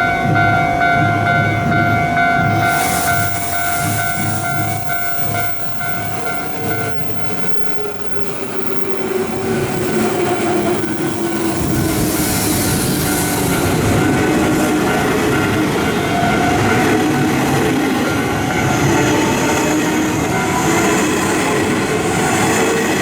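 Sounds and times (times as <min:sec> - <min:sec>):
high ringing tones: 0:00.0 - 0:19.2
rolling rail noise: 0:00.0 - 0:23.0
electric train motor whine: 0:02.4 - 0:23.0.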